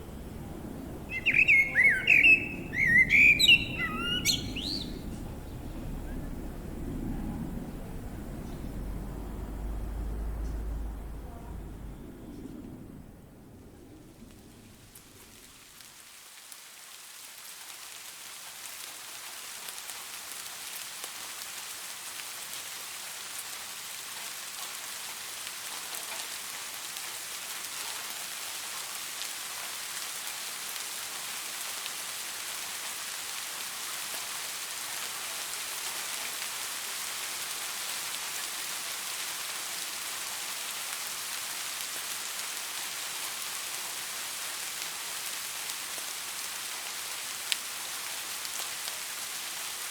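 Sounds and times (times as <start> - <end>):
rain falling on a surface: 0.0 - 49.9.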